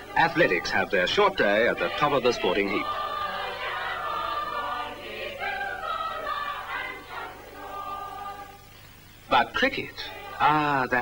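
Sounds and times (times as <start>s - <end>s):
choir singing held chords: 0.0s - 11.0s.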